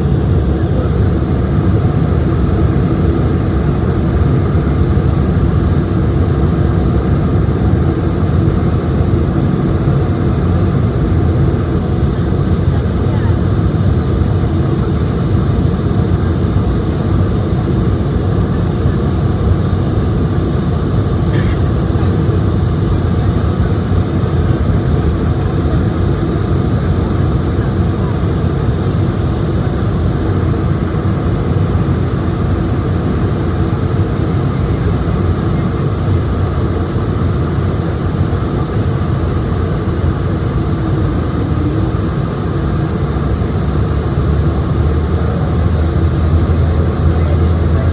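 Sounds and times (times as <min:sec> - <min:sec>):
airliner cabin roar: 0:00.0 - 0:47.9.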